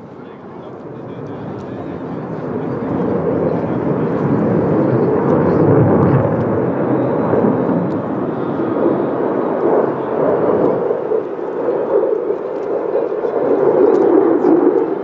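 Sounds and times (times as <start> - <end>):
jet engine rumbling roar: 0.0 - 15.0.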